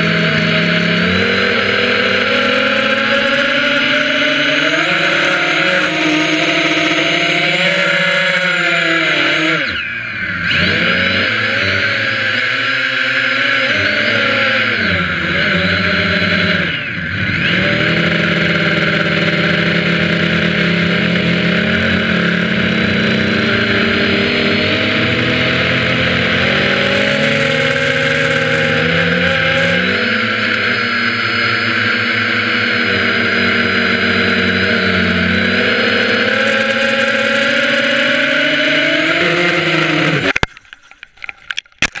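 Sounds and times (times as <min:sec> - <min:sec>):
drone propellers whining: 0:00.0 - 0:42.0.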